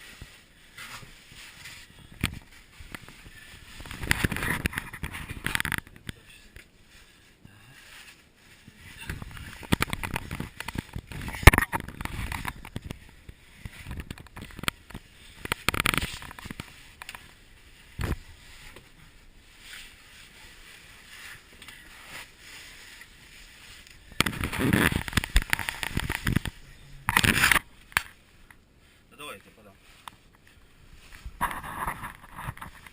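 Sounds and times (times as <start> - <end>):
people moving over rock and gravel: 0.0 - 32.9.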